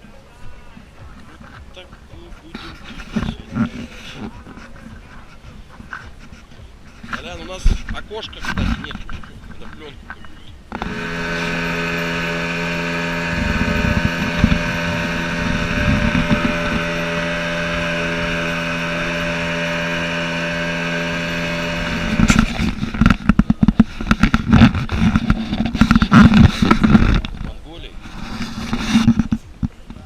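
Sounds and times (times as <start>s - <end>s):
engine humming steadily: 0.0s - 30.0s
loud rattling and buffeting: 0.0s - 30.0s.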